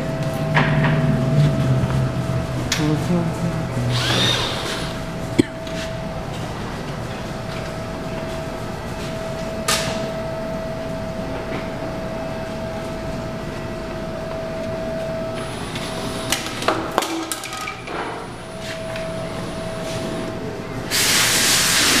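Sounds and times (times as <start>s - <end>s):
constant hum: 0.0s - 21.2s.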